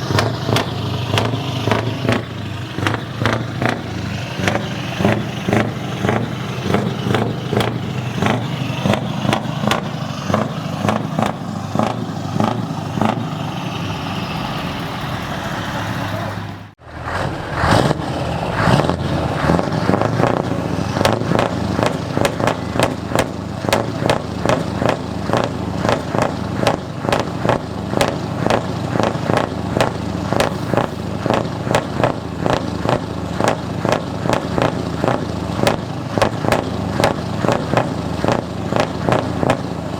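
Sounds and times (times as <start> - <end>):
truck engine with loud exhaust: 0.0 - 39.9.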